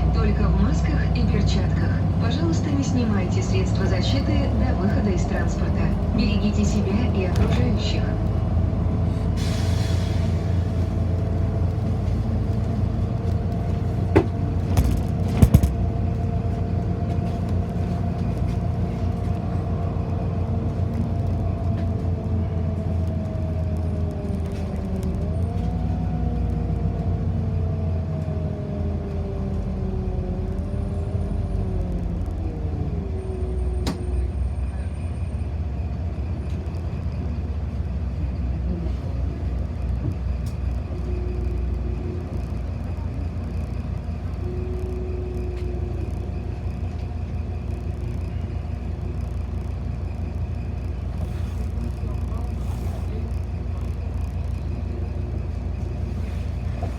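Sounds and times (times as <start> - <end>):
bus engine rumble: 0.0 - 56.9
drivetrain whine: 0.0 - 56.9.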